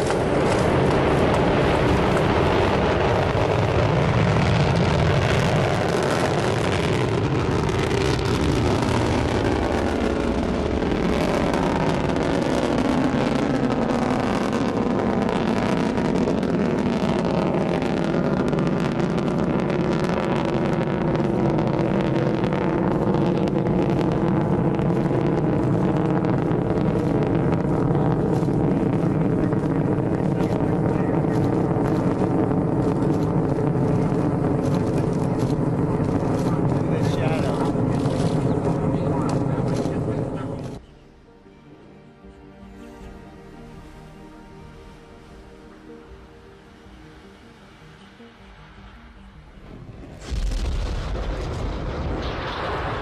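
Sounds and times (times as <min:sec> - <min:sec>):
rocket engine rumble: 0:00.0 - 0:40.8, 0:47.1 - 0:53.0.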